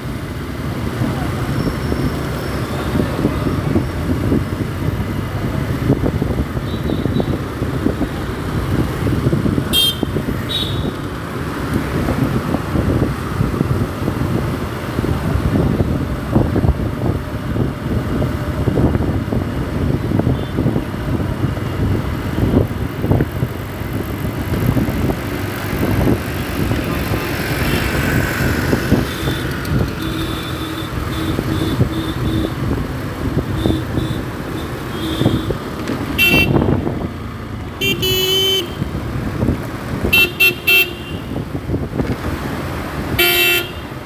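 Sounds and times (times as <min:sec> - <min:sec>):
wind on microphone: 0:01.7 - 0:37.4, 0:41.2 - 0:43.2.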